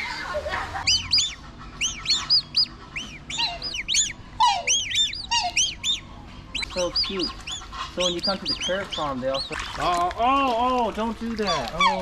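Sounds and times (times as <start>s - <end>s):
lower falling bird calls: 0.0s - 12.0s
small birds chirping: 0.0s - 12.0s.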